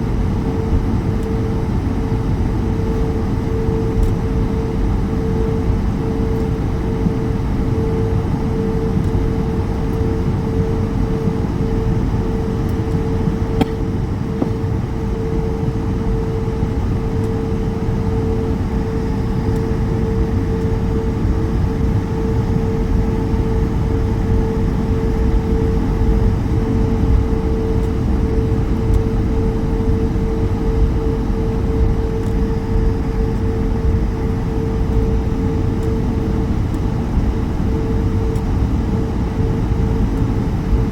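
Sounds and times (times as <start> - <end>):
aircraft cabin rumble: 0.0 - 40.9
constant droning tone: 0.0 - 40.9.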